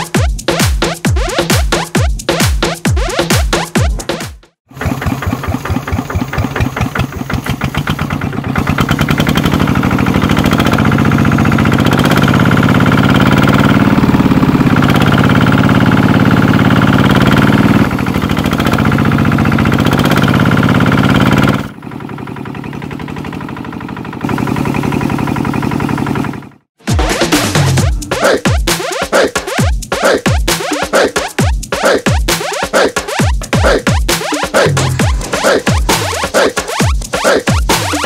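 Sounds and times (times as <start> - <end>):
tiller motor chugging: 0.0 - 38.0.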